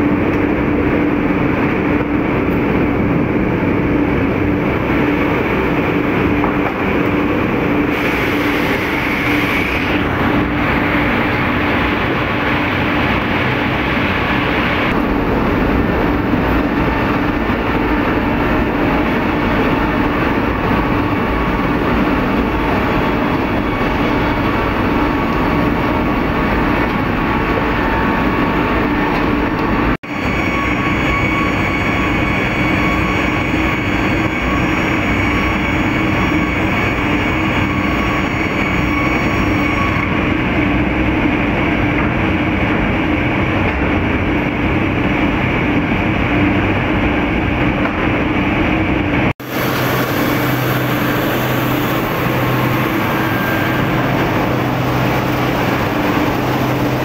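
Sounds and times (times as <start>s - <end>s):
high machine whine: 0.0s - 57.0s
sawmill machinery running: 0.1s - 57.0s.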